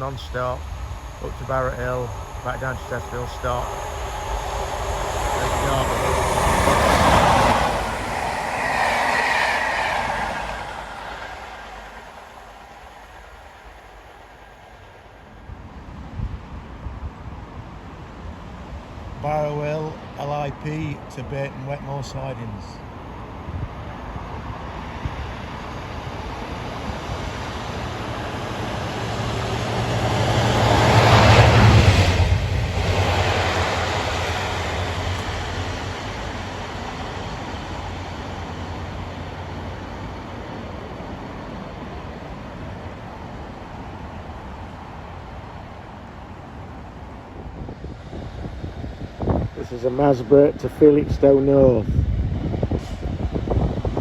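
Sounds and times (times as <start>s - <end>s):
diesel locomotive passing: 0.0s - 54.0s
train running past: 0.0s - 54.0s.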